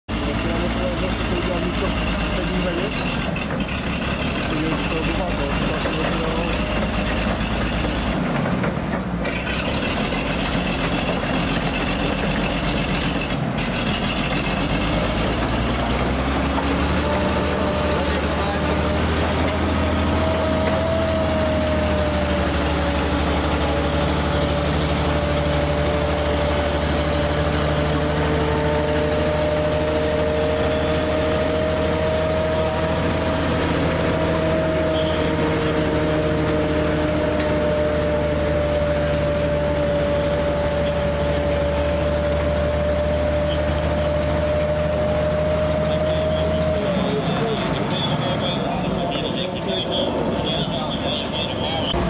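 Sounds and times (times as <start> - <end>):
tank engine running: 0.1 - 52.0.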